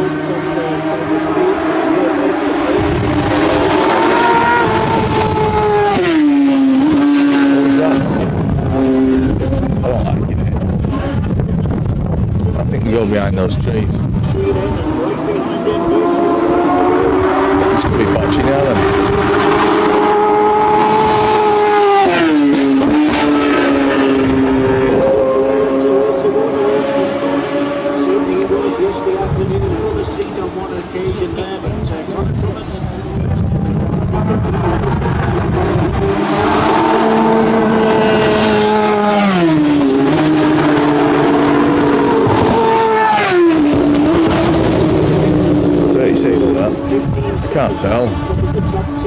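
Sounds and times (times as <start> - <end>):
superbike engine at high revs: 0.0 - 49.0.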